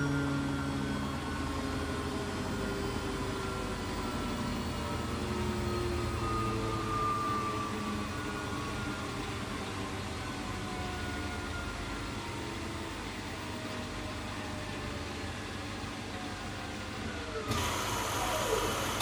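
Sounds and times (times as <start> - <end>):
washing machine motor whining: 0.0 - 19.0.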